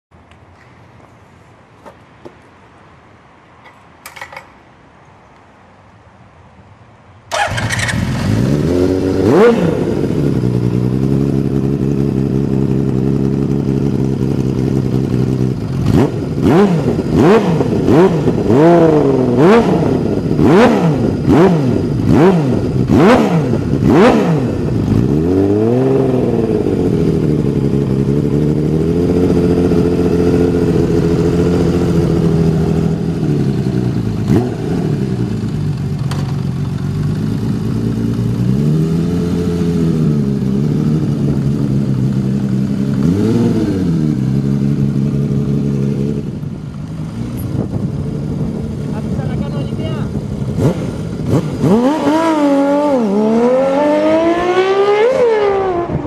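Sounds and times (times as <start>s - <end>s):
motorcycle engine idling and revving: 7.3s - 56.0s.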